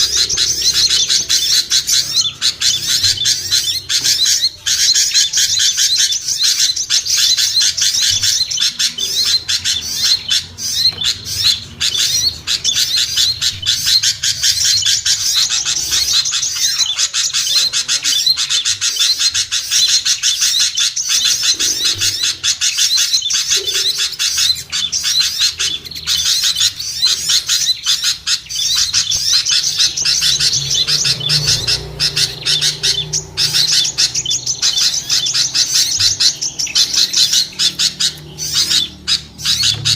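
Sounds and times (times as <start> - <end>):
chorus of songbirds chirping: 0.0 - 39.9.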